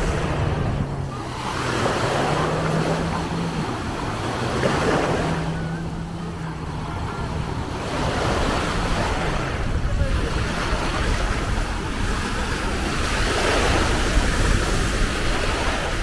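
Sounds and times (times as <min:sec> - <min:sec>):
low motor hum: 0:00.0 - 0:16.0
small waves breaking on sand: 0:00.0 - 0:16.0.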